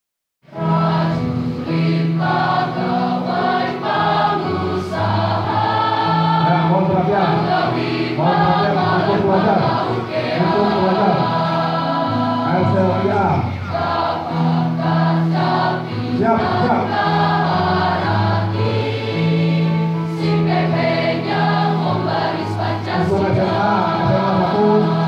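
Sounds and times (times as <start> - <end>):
choir singing long notes: 0.5 - 25.0.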